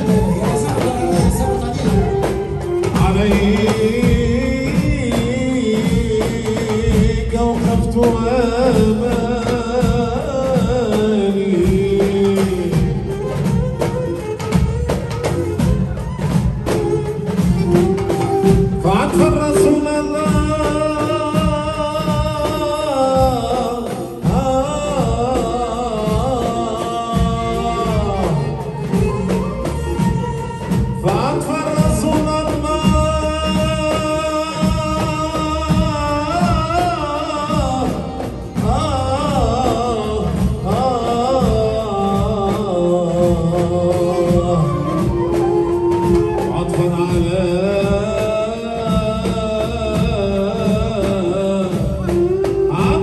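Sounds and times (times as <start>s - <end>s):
frame drums beating: 0.0s - 53.0s
sung melody: 0.0s - 53.0s.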